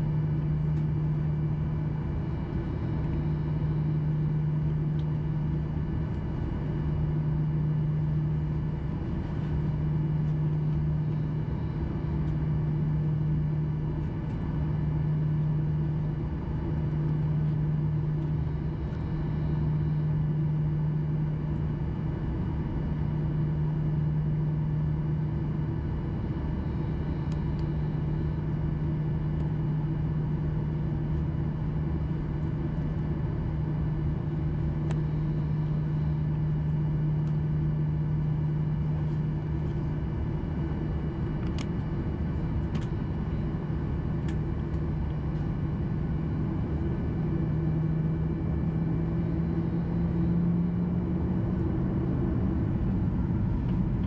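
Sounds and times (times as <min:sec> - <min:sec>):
jet engine drone in cabin: 0:00.0 - 0:54.0.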